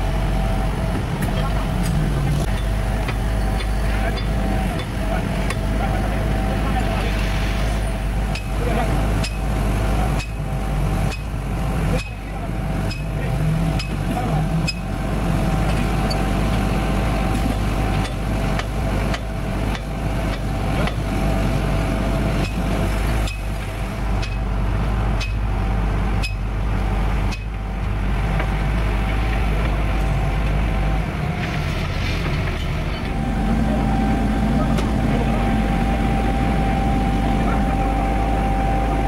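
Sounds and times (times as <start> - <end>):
heavy machine engine running: 0.0 - 39.0.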